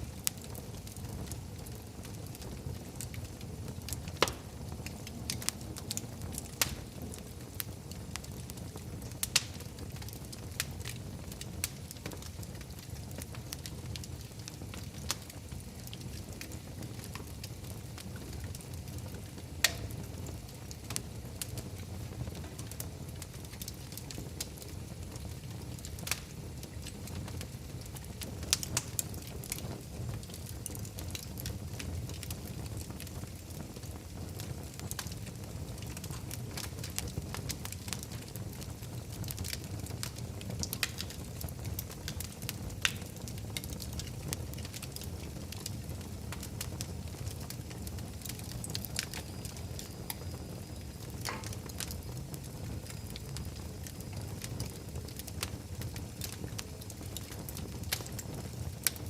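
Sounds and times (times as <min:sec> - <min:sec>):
fire pops and snaps: 0:00.0 - 0:59.0
low rumble of flames: 0:00.0 - 0:59.0.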